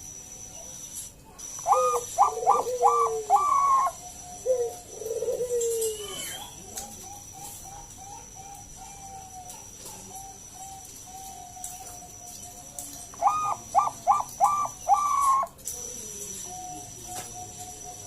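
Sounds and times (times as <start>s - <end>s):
dove cooing: 1.4s - 18.0s.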